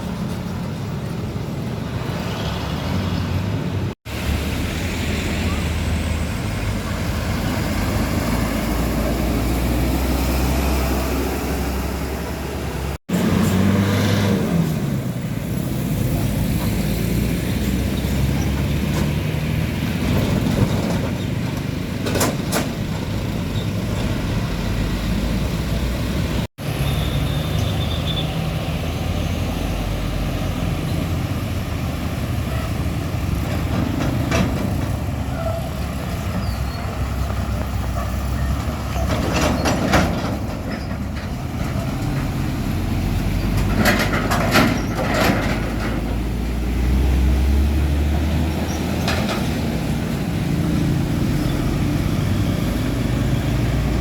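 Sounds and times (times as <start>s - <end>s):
diesel trucks driving past: 0.0s - 54.0s.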